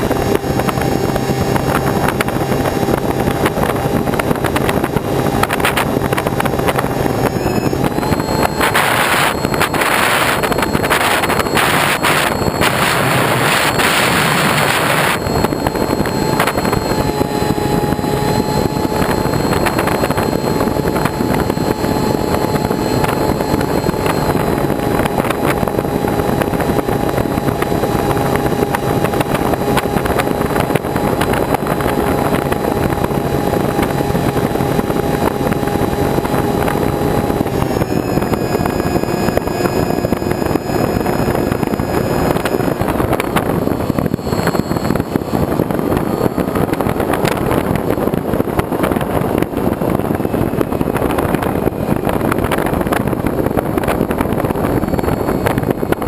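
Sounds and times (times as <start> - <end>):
loud gust-like rush: 0.0 - 56.0
vehicle engine running: 0.0 - 56.0
wind noise hiss: 0.0 - 56.0.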